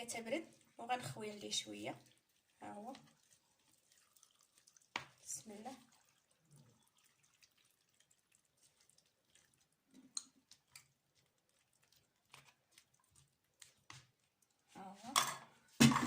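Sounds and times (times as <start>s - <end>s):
faint water drips: 0.0s - 15.8s.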